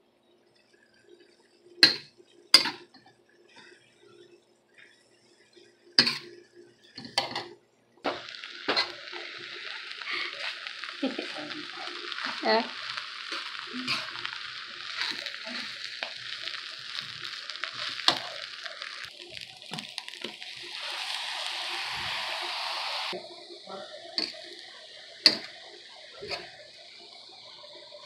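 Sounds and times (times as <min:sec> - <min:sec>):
rice sizzling in a hot pan: 0:01.0 - 0:28.0.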